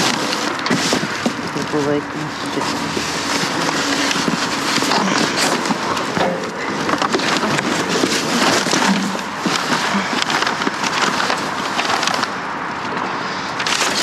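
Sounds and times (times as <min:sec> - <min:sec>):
plastic and cardboard rustling: 0:00.0 - 0:14.0.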